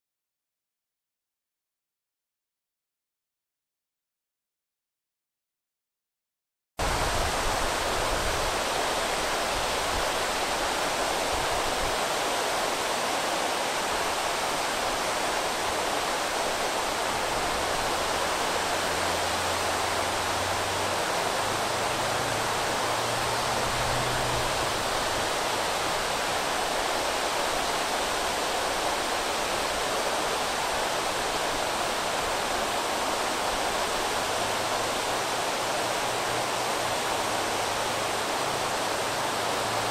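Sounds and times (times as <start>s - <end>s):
river water rushing over dam: 6.8s - 39.9s.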